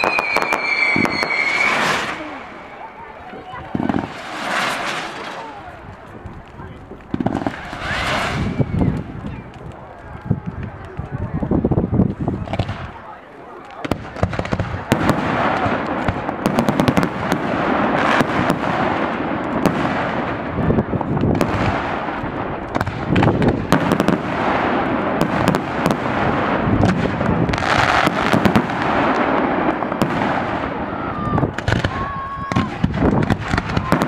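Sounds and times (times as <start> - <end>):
fireworks bangs: 0.0 - 34.0
fireworks crackle: 0.0 - 34.0.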